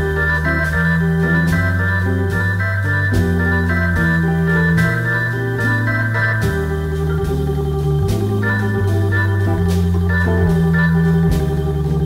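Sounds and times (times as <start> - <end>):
organ chords: 0.0 - 12.0.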